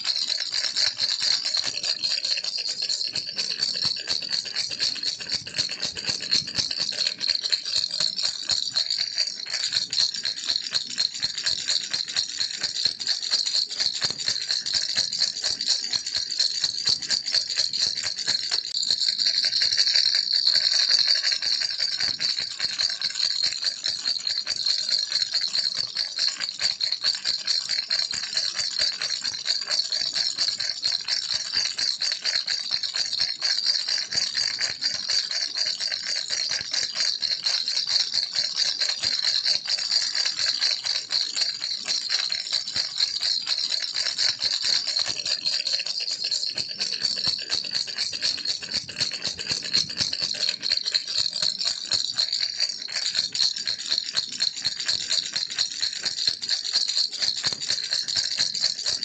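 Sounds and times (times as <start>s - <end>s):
baby rattle shaking: 0.0s - 56.2s, 57.1s - 59.0s.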